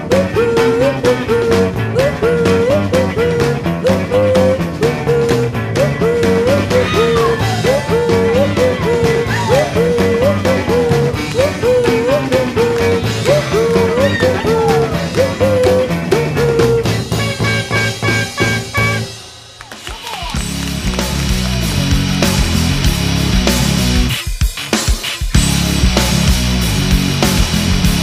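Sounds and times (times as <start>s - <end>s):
rock music: 0.0s - 28.0s.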